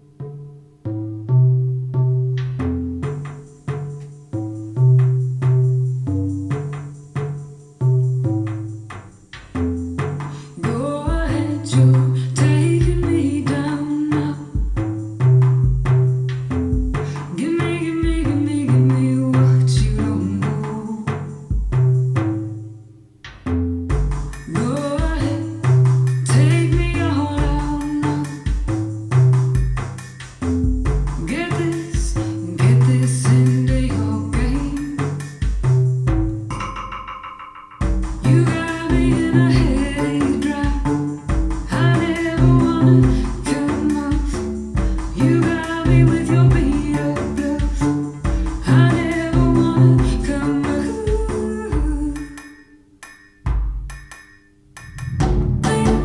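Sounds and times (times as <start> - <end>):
instrumental music with deep bass: 0.0 - 52.2, 53.5 - 56.0.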